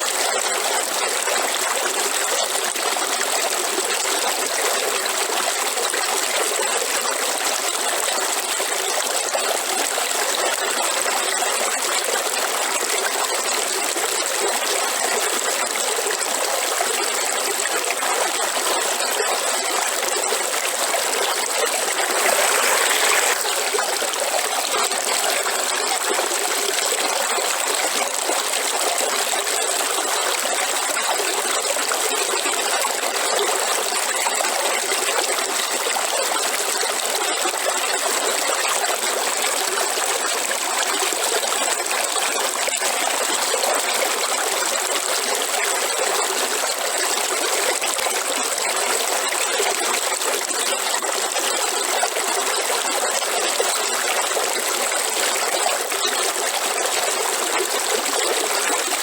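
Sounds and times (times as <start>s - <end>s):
river water trickling: 0.0s - 59.0s.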